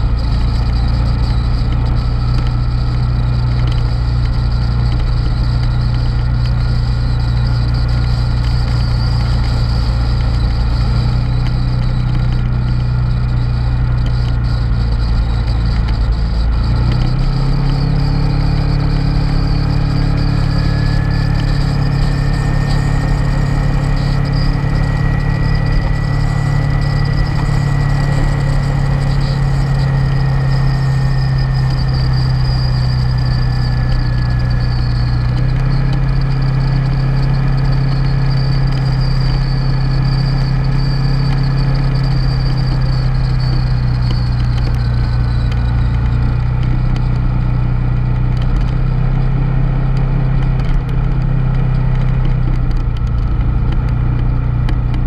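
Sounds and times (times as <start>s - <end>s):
road noise rushing: 0.0s - 48.7s
motorcycle engine running: 0.0s - 55.0s.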